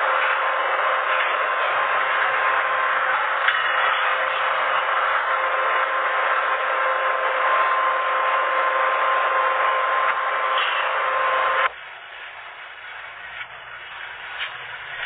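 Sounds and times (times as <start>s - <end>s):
machine whining: 0.0s - 15.0s.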